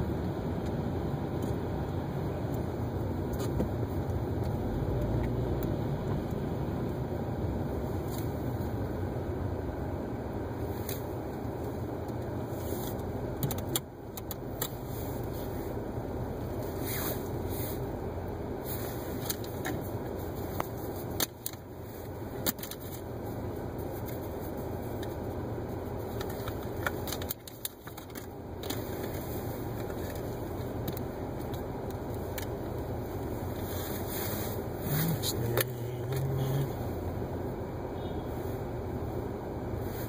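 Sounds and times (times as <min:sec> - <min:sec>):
low noise inside car: 0:00.0 - 0:40.0.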